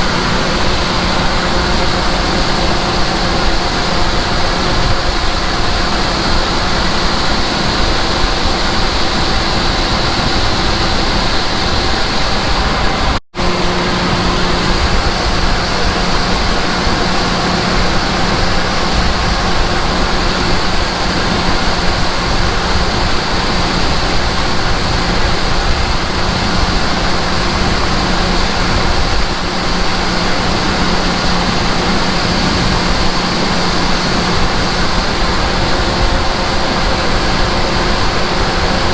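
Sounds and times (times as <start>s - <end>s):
harvester engines running: 0.0s - 38.9s.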